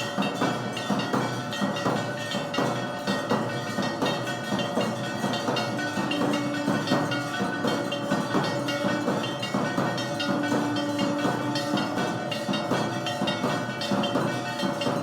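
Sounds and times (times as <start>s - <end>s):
bells and percussion struck rhythmically: 0.0s - 15.0s
bells ringing steadily: 0.0s - 15.0s.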